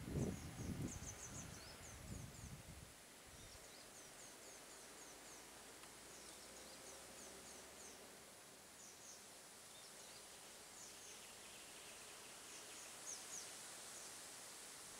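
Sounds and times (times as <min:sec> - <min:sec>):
insect-like hiss: 0:00.0 - 0:14.9.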